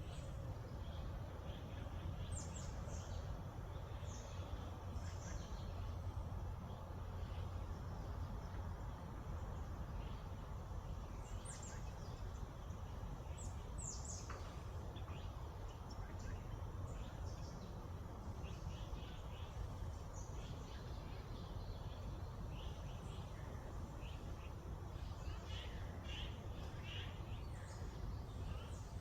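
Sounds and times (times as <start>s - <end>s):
low background rumble: 0.0s - 29.0s
small birds chirping: 0.0s - 29.0s.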